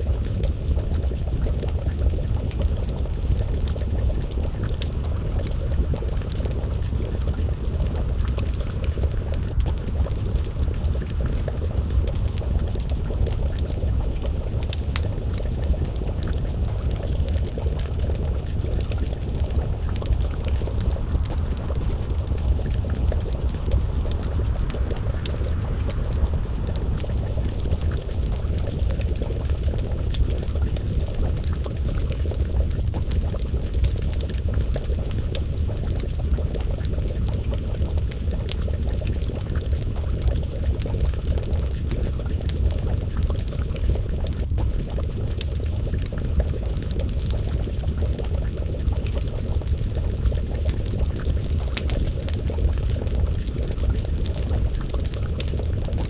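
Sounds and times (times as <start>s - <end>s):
pot of stew bubbling: 0.0s - 56.0s
wood fire crackling: 0.0s - 56.0s.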